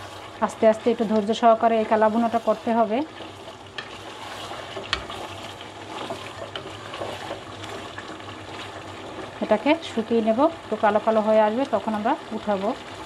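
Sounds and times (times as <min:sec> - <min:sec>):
meat sizzling in gravy: 0:00.0 - 0:13.0
wooden spoon stirring and scraping: 0:00.0 - 0:13.0.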